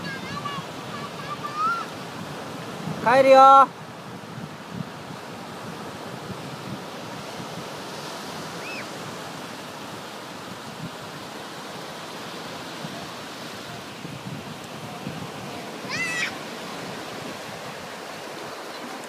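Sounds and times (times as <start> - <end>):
small waves washing on sand: 0.0 - 19.0.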